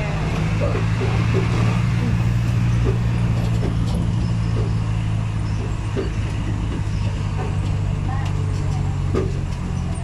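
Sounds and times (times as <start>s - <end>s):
bus engine hum: 0.0s - 10.0s
road and traffic noise: 0.0s - 10.0s.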